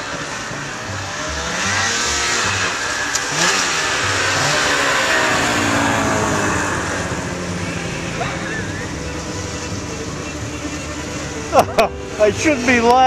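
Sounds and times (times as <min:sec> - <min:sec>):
snowmobile engines revving: 0:00.0 - 0:13.0.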